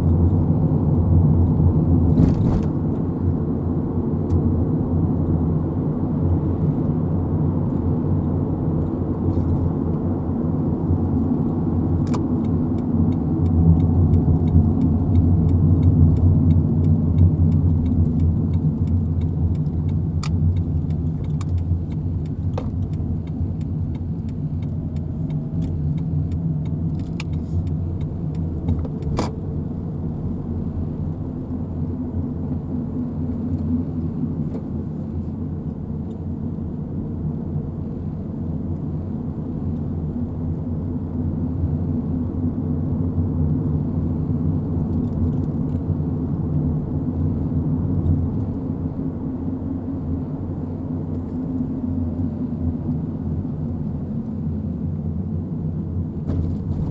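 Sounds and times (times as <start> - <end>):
car engine rumble: 0.0 - 56.9.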